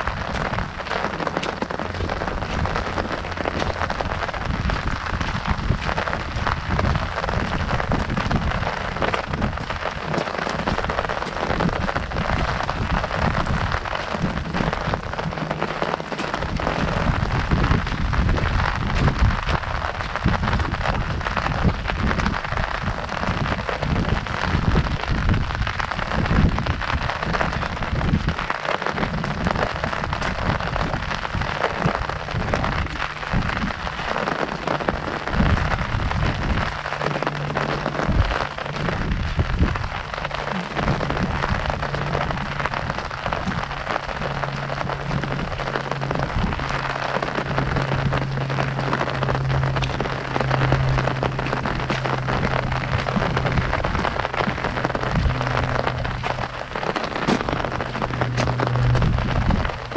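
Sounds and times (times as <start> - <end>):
heavy rain on an umbrella: 0.0 - 59.9
low steady hum: 0.0 - 59.9
low thumps: 0.0 - 59.9.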